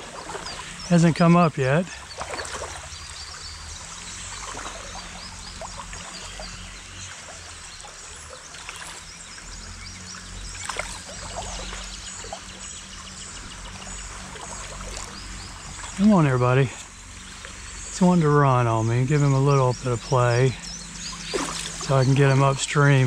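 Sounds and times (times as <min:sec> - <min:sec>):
creek water running and trickling: 0:00.0 - 0:23.0
water splashing: 0:00.0 - 0:23.0.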